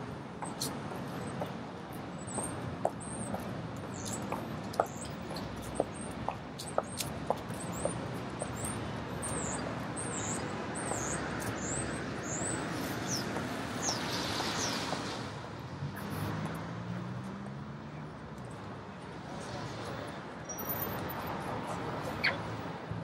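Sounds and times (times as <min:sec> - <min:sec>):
city street noise: 0:00.0 - 0:23.0.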